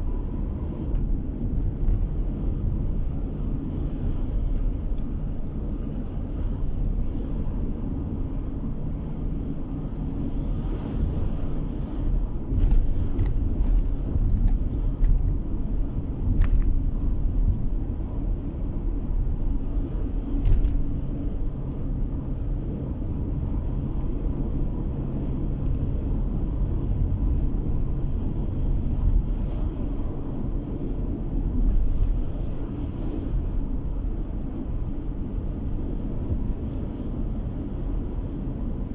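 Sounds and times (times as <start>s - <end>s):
car cabin road noise: 0.0s - 38.9s.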